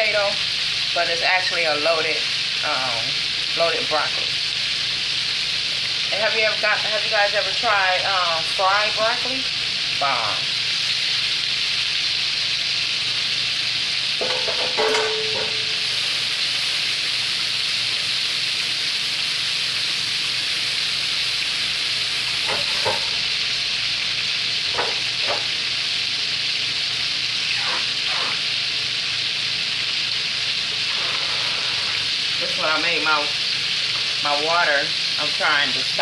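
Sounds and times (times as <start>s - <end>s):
chicken frying in hot oil: 0.0s - 36.0s.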